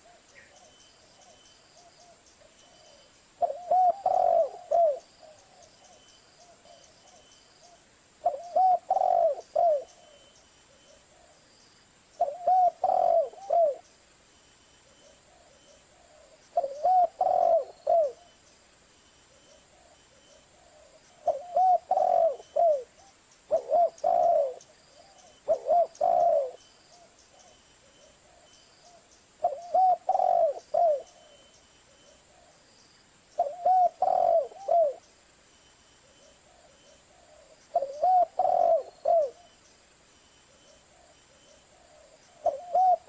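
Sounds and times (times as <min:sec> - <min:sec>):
dove cooing: 0:00.0 - 0:11.4, 0:12.2 - 0:13.9, 0:15.0 - 0:18.4, 0:19.3 - 0:32.7, 0:33.4 - 0:35.1, 0:36.0 - 0:39.5, 0:40.5 - 0:43.0.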